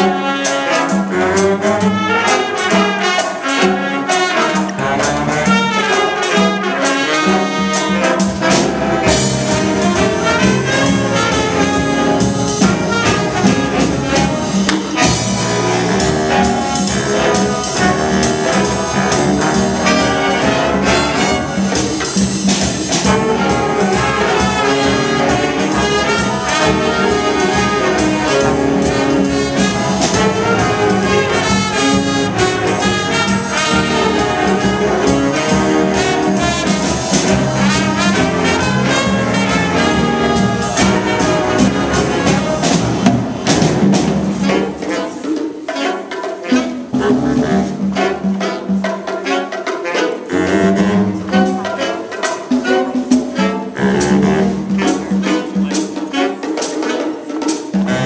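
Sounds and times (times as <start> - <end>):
jazz band playing: 0.0 - 58.0
trumpets and saxophones: 0.0 - 58.0.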